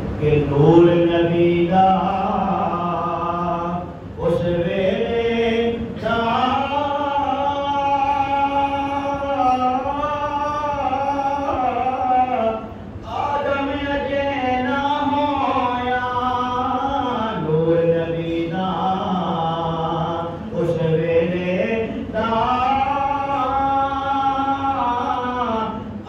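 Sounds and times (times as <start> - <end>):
man chanting: 0.2 - 26.0.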